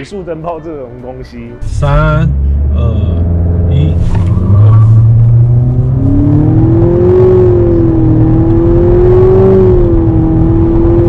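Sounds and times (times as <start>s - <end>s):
car engine at full throttle: 1.6s - 11.0s.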